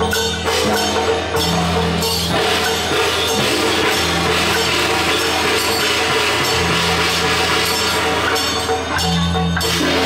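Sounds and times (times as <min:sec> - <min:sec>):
gong and cymbal clashes: 0:00.0 - 0:10.0.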